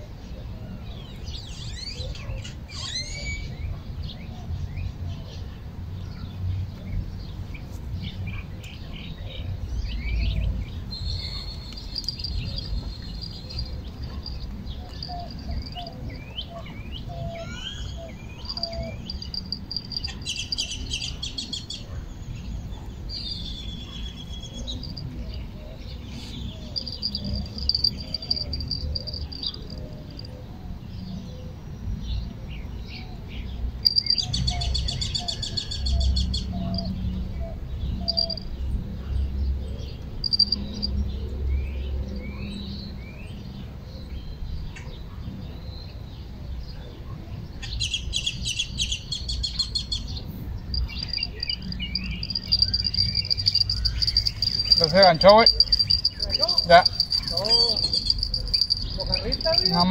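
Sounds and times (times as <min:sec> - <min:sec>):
birds chirping and singing: 0:00.9 - 0:05.0, 0:07.2 - 0:38.7, 0:39.4 - 0:44.8, 0:47.6 - 0:59.9.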